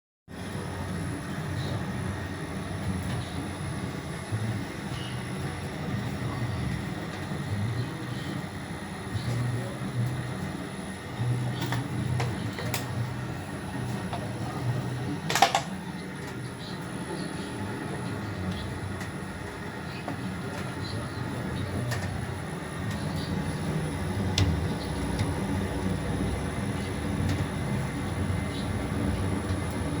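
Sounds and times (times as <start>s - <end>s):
machine running with low rumble: 0.3s - 30.0s.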